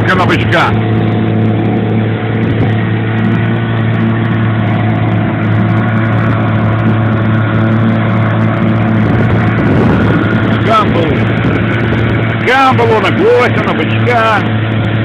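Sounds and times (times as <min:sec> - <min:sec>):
outboard motor humming: 0:00.0 - 0:15.0
water rushing from wake: 0:00.0 - 0:15.0.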